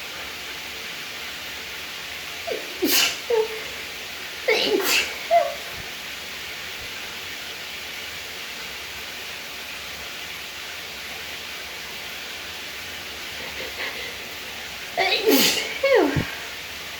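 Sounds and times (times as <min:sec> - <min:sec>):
shower water running: 0:00.0 - 0:16.9.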